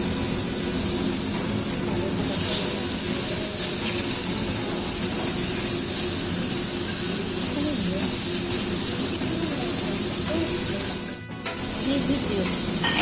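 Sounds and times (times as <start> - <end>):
food sizzling in a wok: 0.0 - 13.0
faint chatter: 1.2 - 13.0.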